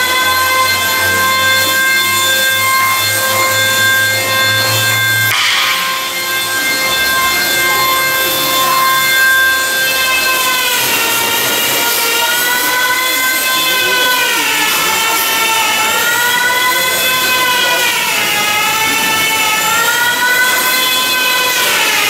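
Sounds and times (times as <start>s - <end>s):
power tool cutting wood: 0.0s - 22.0s.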